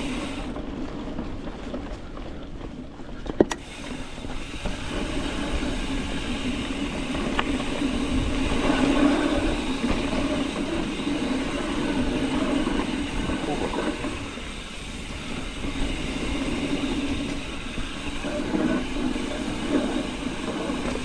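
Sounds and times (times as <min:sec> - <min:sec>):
bike tyres roaring on dirt: 0:00.0 - 0:21.0.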